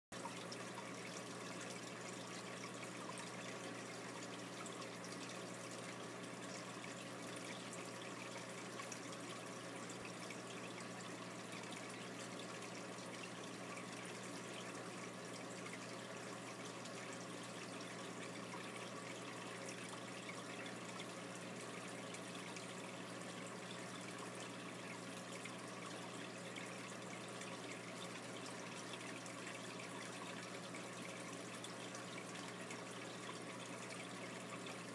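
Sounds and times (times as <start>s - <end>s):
water trickling in aquarium: 0.1s - 34.9s.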